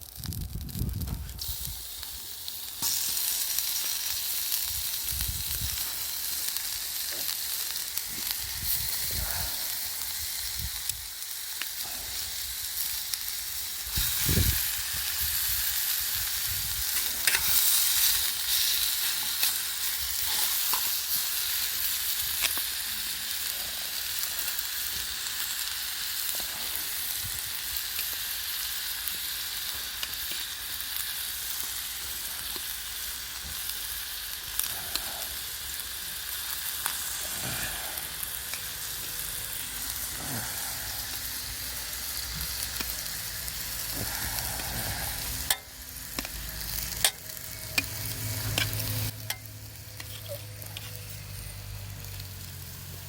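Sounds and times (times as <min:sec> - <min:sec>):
food sizzling over fire: 0:00.0 - 0:53.0.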